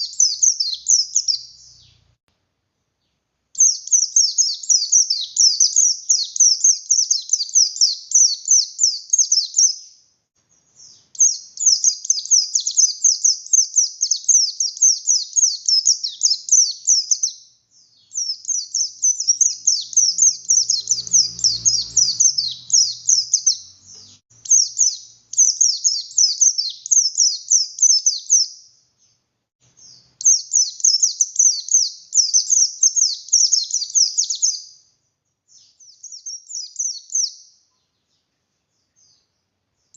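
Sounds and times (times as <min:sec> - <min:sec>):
bird twittering song: 0:00.0 - 0:02.2, 0:03.0 - 0:39.9.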